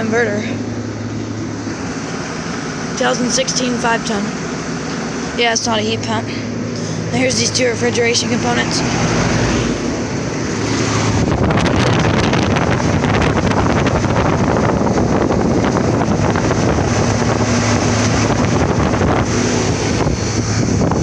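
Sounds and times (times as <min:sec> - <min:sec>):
air buffeting microphone: 0:00.0 - 0:21.0
compressor and motor hum: 0:00.0 - 0:21.0
fan air rushing: 0:00.0 - 0:21.0.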